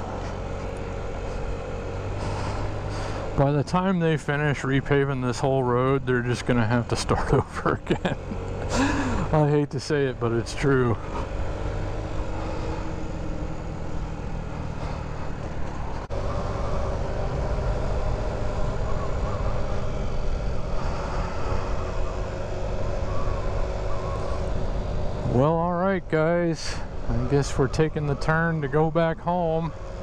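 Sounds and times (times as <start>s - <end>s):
road rumble: 0.0s - 30.0s.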